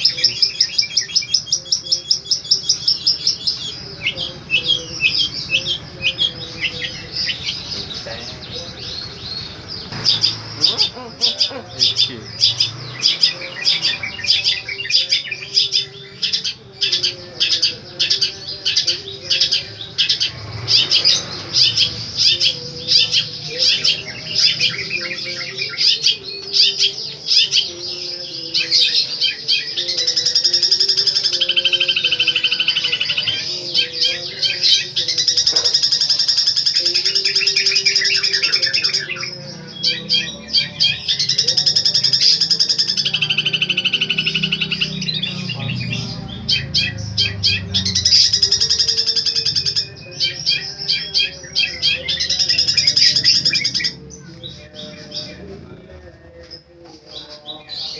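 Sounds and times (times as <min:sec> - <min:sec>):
bird singing rapid trill: 0:00.0 - 0:57.9.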